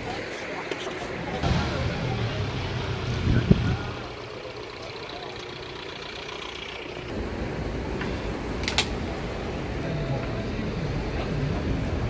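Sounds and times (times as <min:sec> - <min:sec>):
bus engine running: 0:00.0 - 0:12.0
street traffic: 0:00.0 - 0:12.0.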